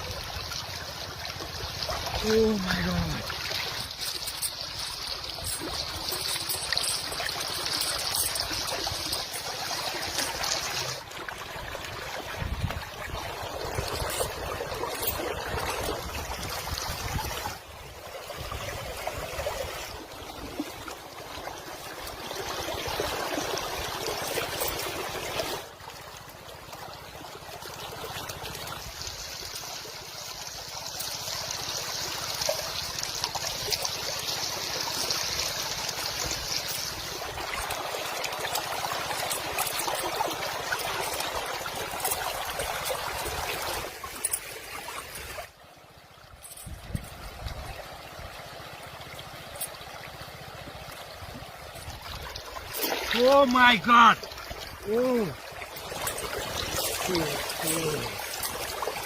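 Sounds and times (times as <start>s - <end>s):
stream trickling: 0.0s - 59.0s.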